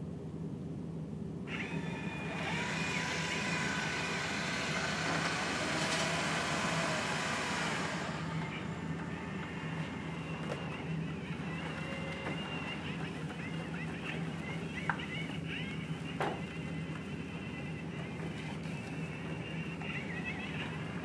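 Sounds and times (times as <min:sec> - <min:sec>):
low steady hum: 0:00.0 - 0:21.0
robot vacuum motor whine: 0:01.5 - 0:21.0.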